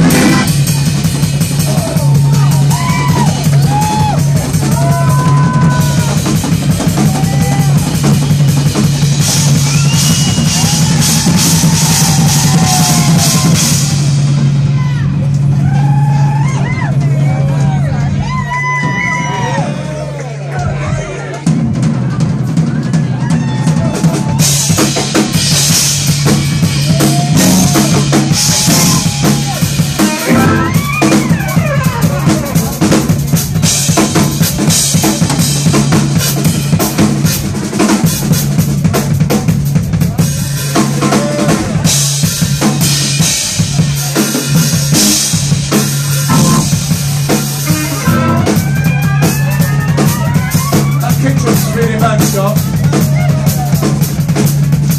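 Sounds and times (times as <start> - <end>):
drum kit cymbals and snare: 0.0 - 17.7, 21.4 - 54.9
funk jazz band playing: 0.0 - 19.4, 20.6 - 54.9.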